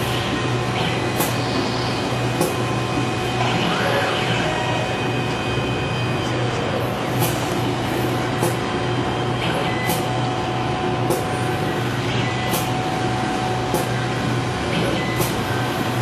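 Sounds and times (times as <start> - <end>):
soldering machine running: 0.0 - 16.0.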